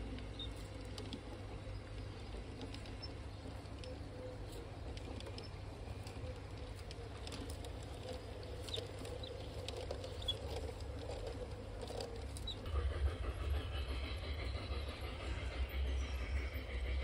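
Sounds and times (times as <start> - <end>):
model train wheels clicking: 0.0 - 17.0.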